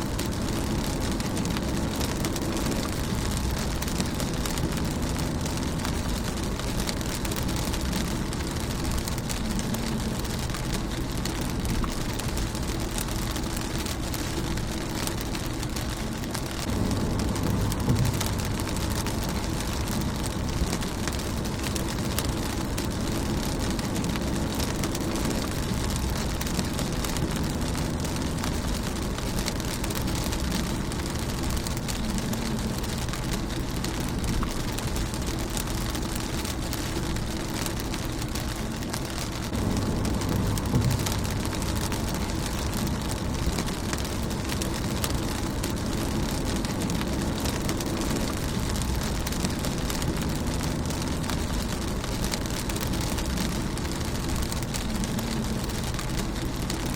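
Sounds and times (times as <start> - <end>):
low rumble: 0.0 - 56.9
rain on car windshield: 0.0 - 56.9.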